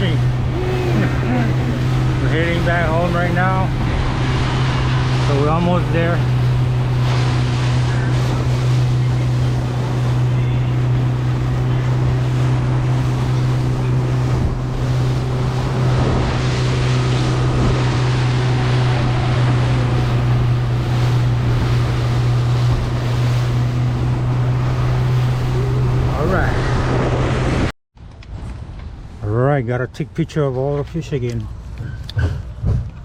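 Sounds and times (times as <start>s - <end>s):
boat motor droning: 0.0s - 27.7s
water rushing past hull: 0.0s - 27.7s
wind buffeting microphone: 0.0s - 28.8s.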